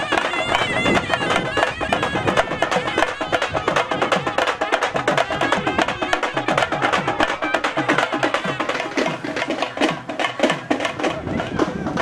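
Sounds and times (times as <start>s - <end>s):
barrel drum beaten fast: 0.0s - 12.0s.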